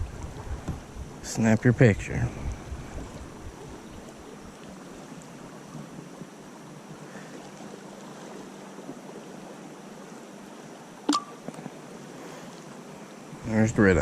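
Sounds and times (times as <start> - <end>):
faint river water: 0.0 - 14.0.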